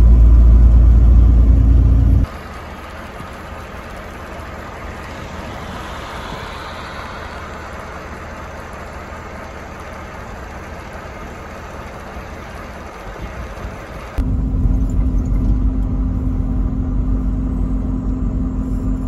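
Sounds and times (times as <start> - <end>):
steady outdoor rushing noise: 0.0 - 19.0.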